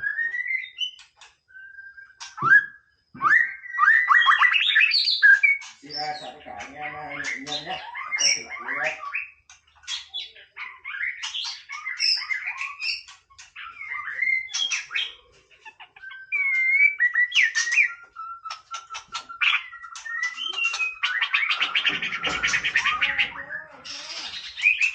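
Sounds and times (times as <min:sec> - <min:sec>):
bird singing whistled phrases: 0:00.0 - 0:09.4, 0:10.6 - 0:15.2, 0:15.9 - 0:24.9.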